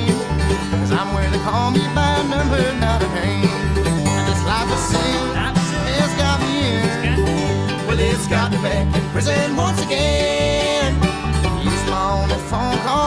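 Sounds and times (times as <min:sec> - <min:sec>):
plucked strings: 0:00.0 - 0:13.0
steady bass beat: 0:00.0 - 0:13.0.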